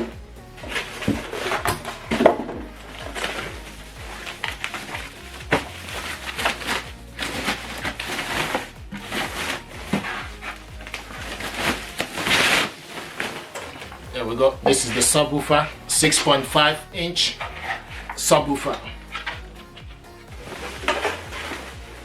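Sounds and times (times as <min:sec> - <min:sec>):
cardboard packaging rustling: 0:00.0 - 0:22.0.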